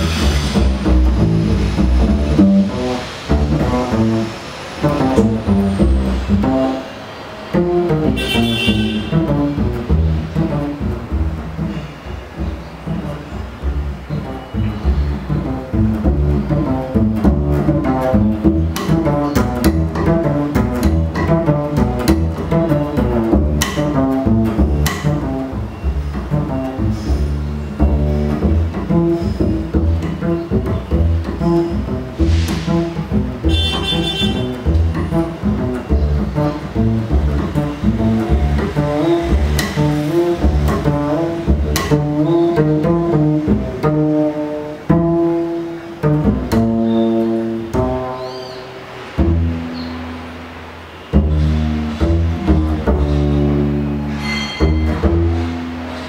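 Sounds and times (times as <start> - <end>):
double bass plucked: 0.0 - 56.0.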